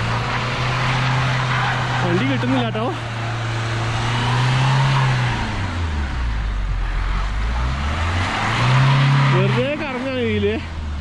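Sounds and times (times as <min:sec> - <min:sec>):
van engine revving: 0:00.0 - 0:11.0.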